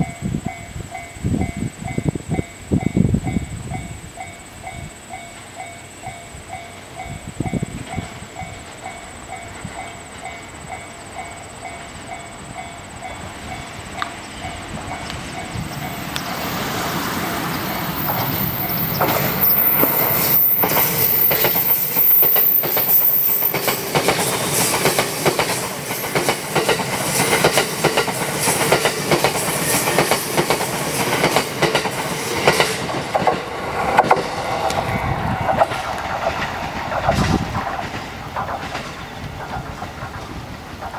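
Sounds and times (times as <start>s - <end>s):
electric train passing at speed: 0.0s - 40.9s
train wheels clattering over rail joints: 5.2s - 40.9s.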